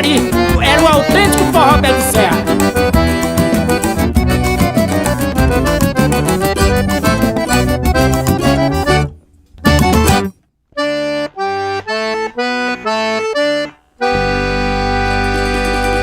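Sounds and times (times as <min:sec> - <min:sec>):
accordion playing with band: 0:00.0 - 0:16.0.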